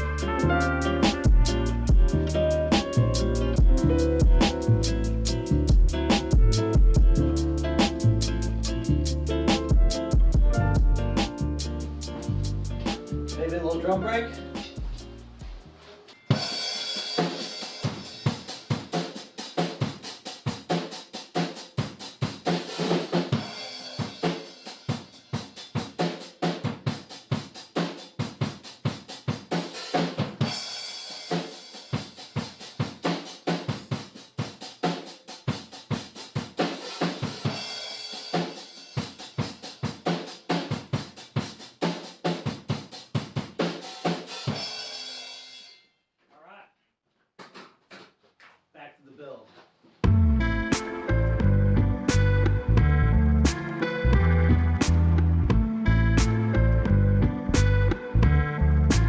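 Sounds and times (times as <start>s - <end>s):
drum-heavy music with fast beat: 0.0s - 45.6s, 50.0s - 59.0s.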